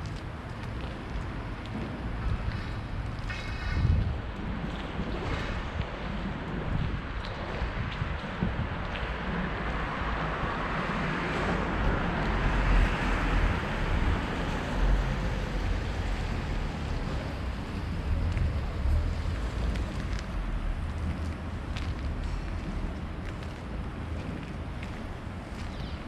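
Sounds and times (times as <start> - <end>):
wet-street traffic noise: 0.0 - 26.0
wind rumbling on microphone: 0.0 - 26.0.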